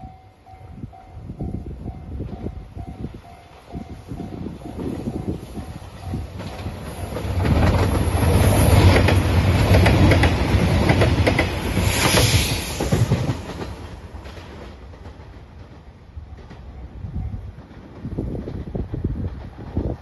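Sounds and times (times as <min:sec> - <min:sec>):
train engine drone: 0:00.0 - 0:20.0.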